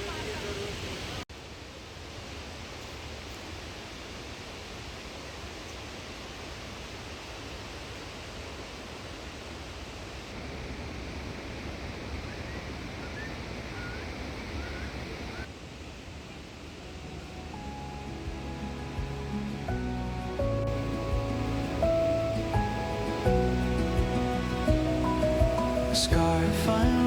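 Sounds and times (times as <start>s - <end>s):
steady rushing outdoor ambience: 0.0s - 27.0s.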